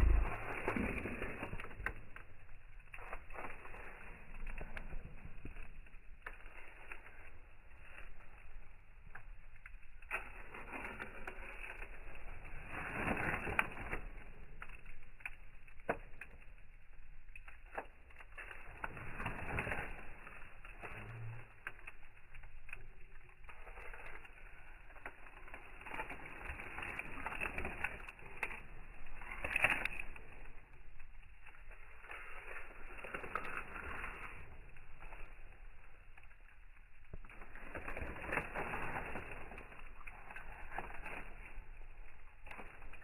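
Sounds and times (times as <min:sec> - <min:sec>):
campfire crackling and popping: 0:00.0 - 0:43.0.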